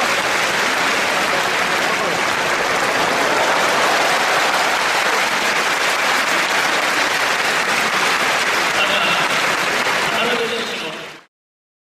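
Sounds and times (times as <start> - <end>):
large audience applauding: 0.0 - 11.3.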